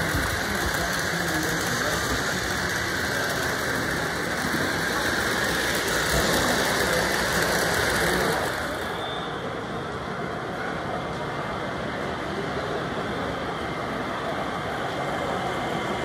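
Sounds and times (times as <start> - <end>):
model trains rumbling on track: 0.0 - 16.0.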